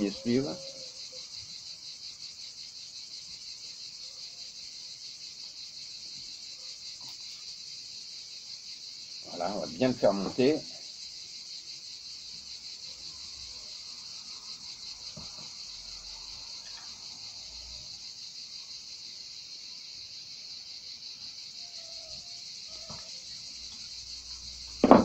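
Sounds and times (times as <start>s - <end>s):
high-pitched insect chirring: 0.0s - 24.9s.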